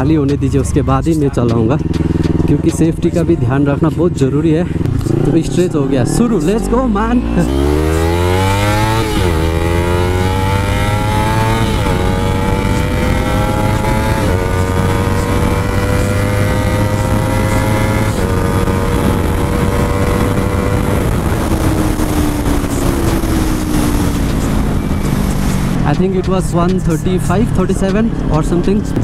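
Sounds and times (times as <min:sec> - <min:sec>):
motorcycle engine revving through gears: 0:01.6 - 0:29.0
loud wind rush: 0:04.6 - 0:29.0.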